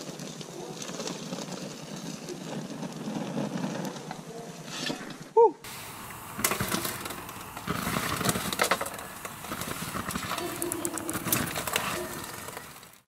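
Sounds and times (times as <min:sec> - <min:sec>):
molten metal crackling and sizzling: 0:00.0 - 0:13.0.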